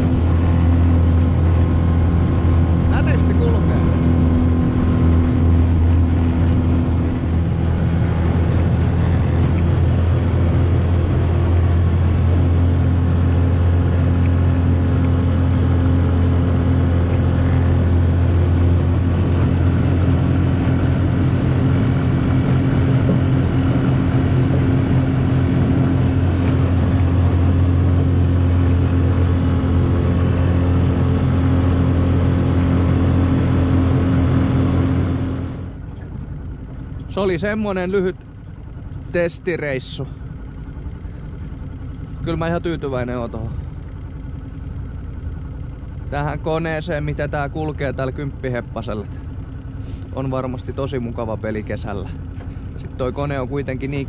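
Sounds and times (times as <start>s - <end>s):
outboard motor running steadily: 0.0s - 54.0s.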